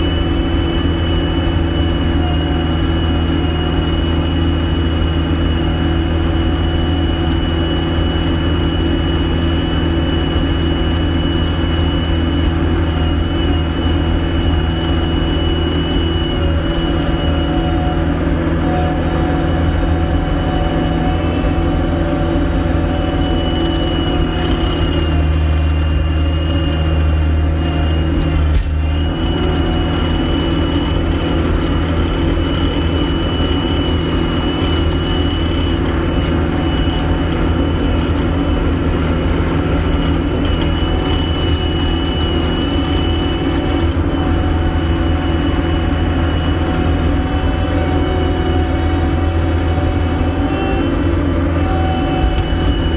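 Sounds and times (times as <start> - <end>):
high hydraulic whine: 0.0 - 52.9
skid steer engine hum: 0.0 - 52.9.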